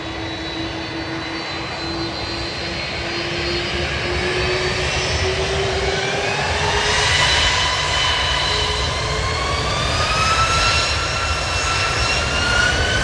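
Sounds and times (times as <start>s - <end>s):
jet engines roaring with whine: 0.0s - 13.0s.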